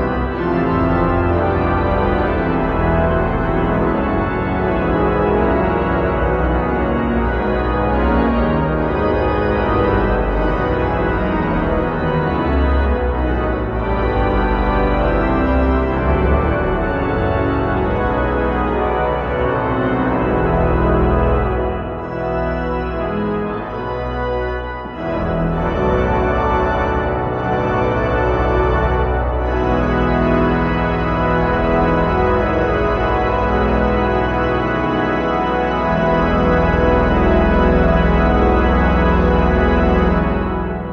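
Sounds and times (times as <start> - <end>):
organ playing full chords: 0.0 - 40.9.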